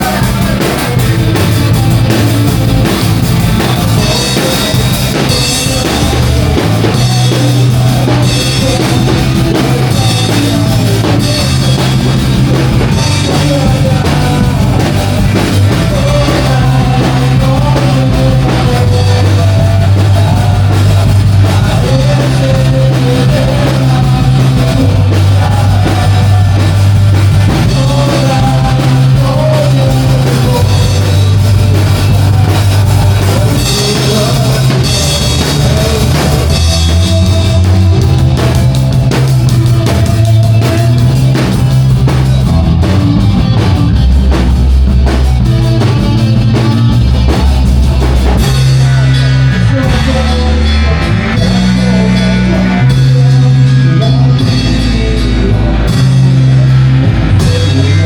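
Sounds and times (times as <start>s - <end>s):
bass guitar: 0.0s - 58.0s
drum kit: 0.0s - 58.0s
person singing: 0.0s - 58.0s.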